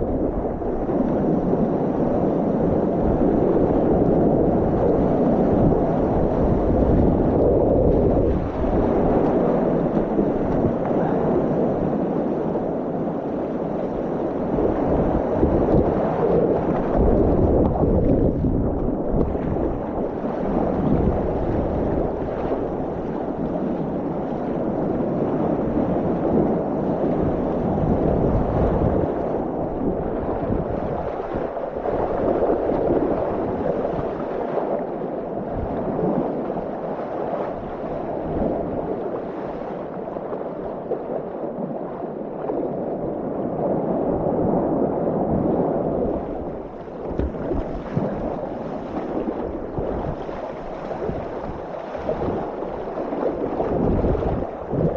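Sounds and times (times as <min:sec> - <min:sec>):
water splashing along kayak hull: 0:00.0 - 0:54.9
wind buffeting microphone: 0:00.0 - 0:54.9.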